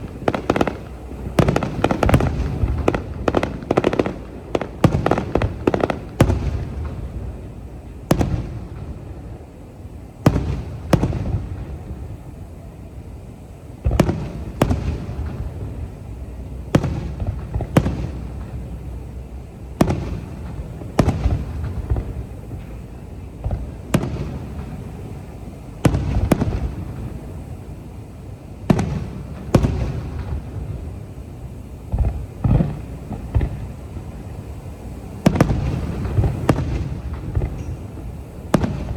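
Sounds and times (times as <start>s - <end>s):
fireworks booming: 0.0s - 38.9s
fireworks crackling: 0.0s - 38.9s.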